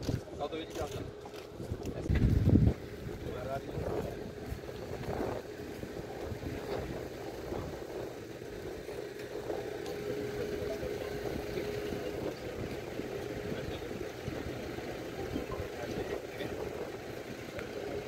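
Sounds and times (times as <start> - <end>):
engine idling: 0.0 - 18.0
steady whine: 0.0 - 18.0.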